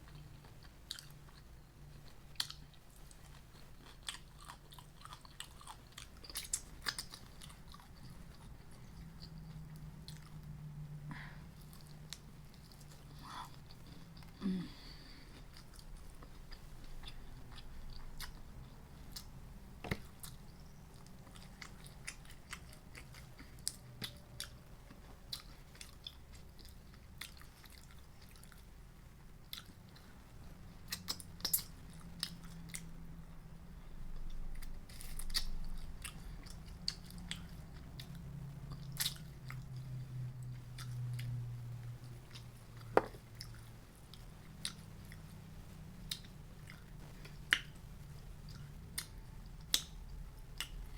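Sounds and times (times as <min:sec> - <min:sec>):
chewing and biting food: 0:00.0 - 0:14.4, 0:15.2 - 0:28.7, 0:29.4 - 0:33.0, 0:34.1 - 0:50.9.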